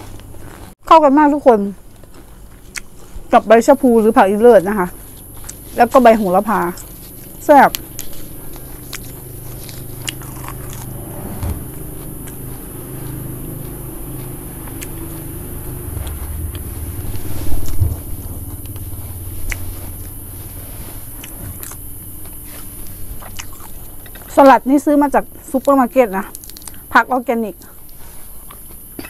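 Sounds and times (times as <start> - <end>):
chewing crispy spring roll: 0.0 - 0.8, 1.7 - 11.0, 11.7 - 24.4, 25.3 - 26.9.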